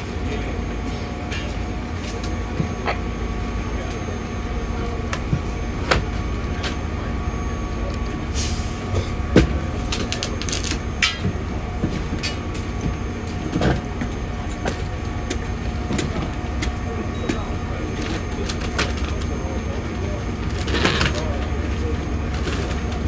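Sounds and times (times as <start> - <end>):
fire engine rumbling: 0.0 - 23.0.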